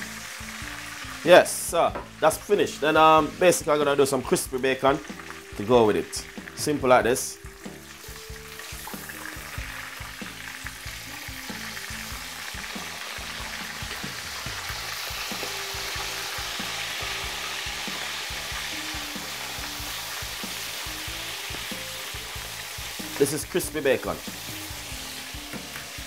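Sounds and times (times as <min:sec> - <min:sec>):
bacon sizzling in a frying pan: 0:00.0 - 0:26.0.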